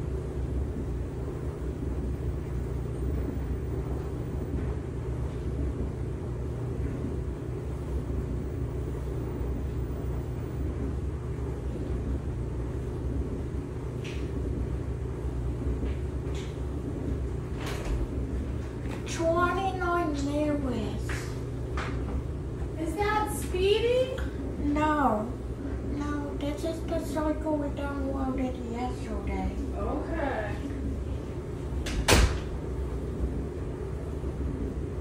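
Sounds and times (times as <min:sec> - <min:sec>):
washing machine hum and rumble: 0:00.0 - 0:35.0.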